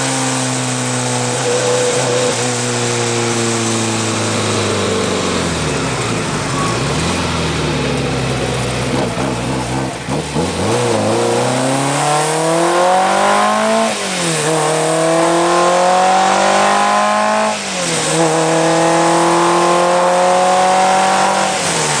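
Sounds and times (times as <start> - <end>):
car engine accelerating through gears: 0.0 - 22.0.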